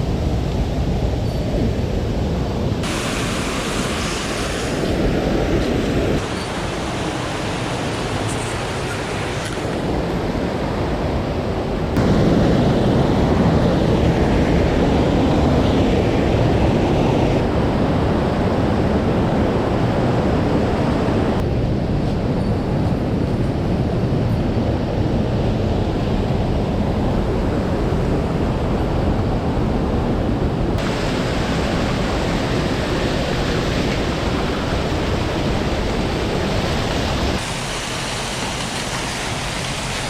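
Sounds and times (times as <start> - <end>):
rushing mountain stream: 0.0 - 21.4, 25.0 - 40.0.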